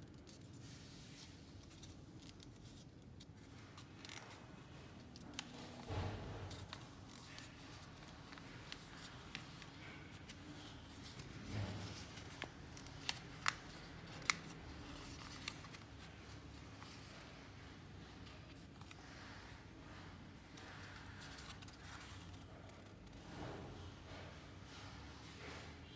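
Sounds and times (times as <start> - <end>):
creased paper crackles: 0.0 - 23.6
paper rustling and rubbing: 0.0 - 23.7.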